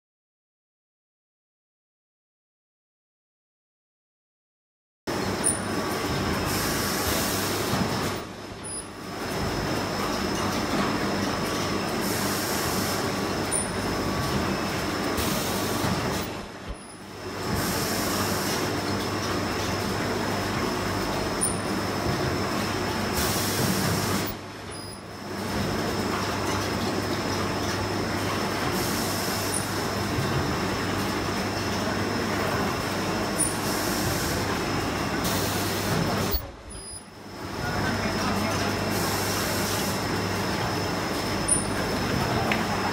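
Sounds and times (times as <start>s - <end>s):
machine rattle and hum: 5.1s - 42.9s.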